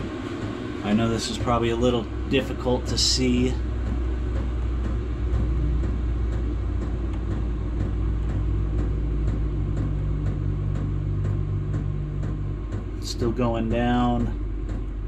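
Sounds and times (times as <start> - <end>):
heater fan hum: 0.0 - 15.0
steady higher tone: 0.0 - 15.0.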